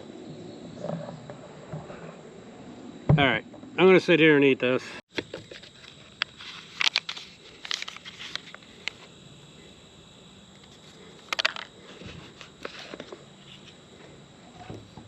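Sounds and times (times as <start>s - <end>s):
faint high insect drone: 0.0s - 15.0s.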